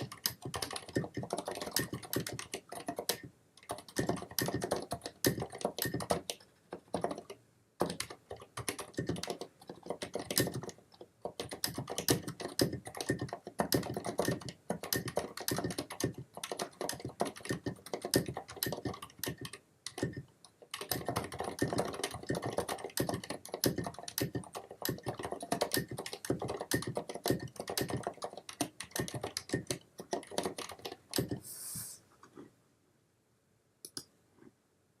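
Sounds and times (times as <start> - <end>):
typing on mechanical keyboard: 0.0 - 31.4.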